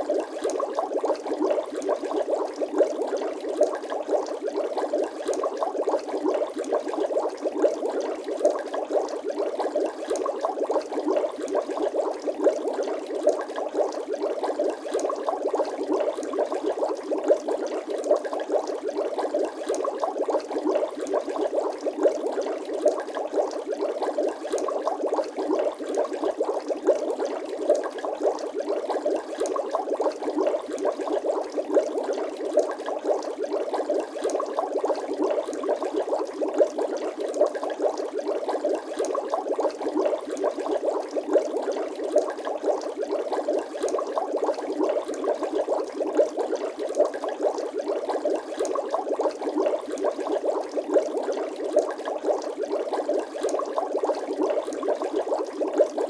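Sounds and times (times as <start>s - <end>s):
water bubbling: 0.0s - 56.0s.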